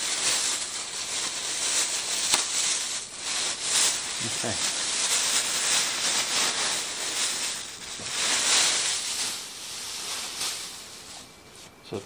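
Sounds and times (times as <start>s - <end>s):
plastic wrapping crinkling: 0.0s - 11.8s.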